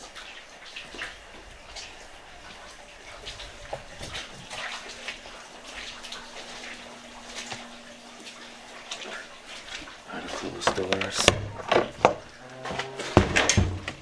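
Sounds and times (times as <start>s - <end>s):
footsteps splashing through water: 0.0s - 13.4s
faint steady hum: 0.0s - 14.0s.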